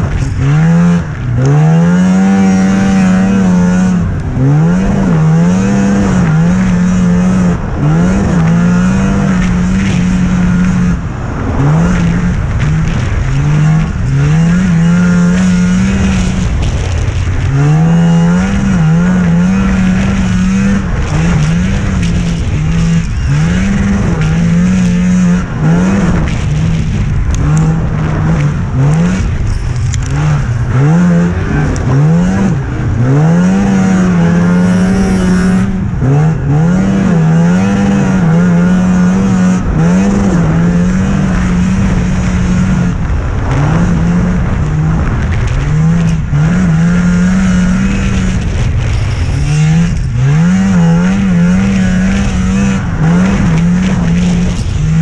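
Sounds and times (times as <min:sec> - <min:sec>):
snowmobile engine revving hard: 0:00.0 - 0:55.0.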